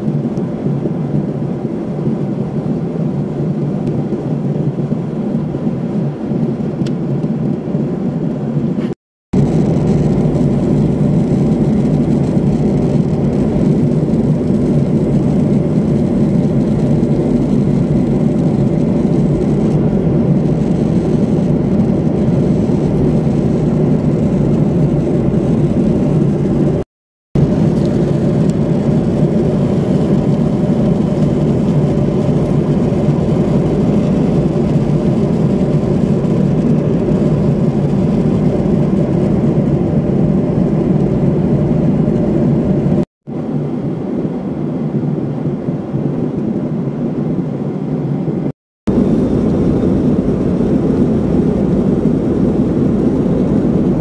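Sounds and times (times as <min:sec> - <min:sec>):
airliner cabin engine rush: 0:00.0 - 0:54.0.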